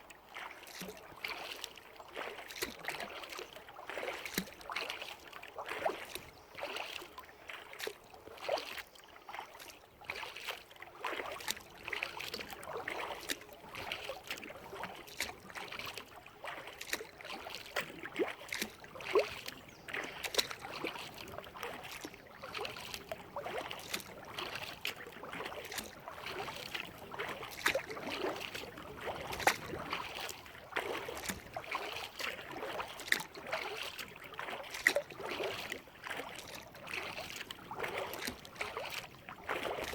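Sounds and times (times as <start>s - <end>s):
paddle dipping into water: 0.0s - 39.9s
water dripping off paddle: 0.1s - 39.9s.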